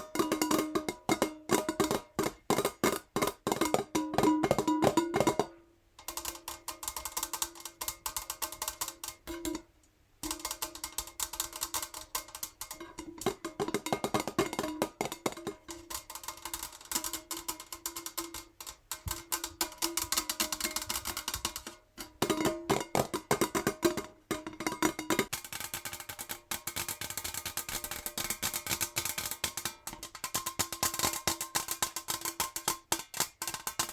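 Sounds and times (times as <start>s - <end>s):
fingernails tapping on metal jar: 0.0s - 9.6s, 10.2s - 33.9s.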